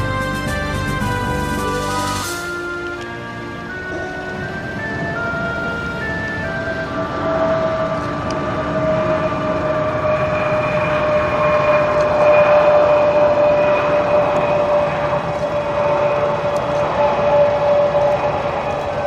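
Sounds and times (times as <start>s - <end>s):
jet aircraft passing: 0.0s - 19.0s.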